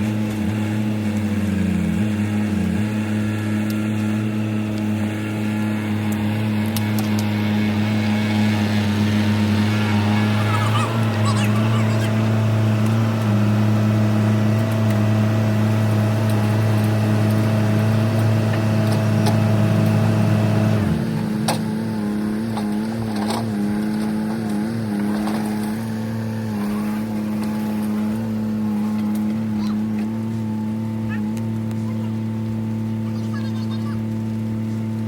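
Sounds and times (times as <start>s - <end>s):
diesel engine under load: 0.0s - 35.0s.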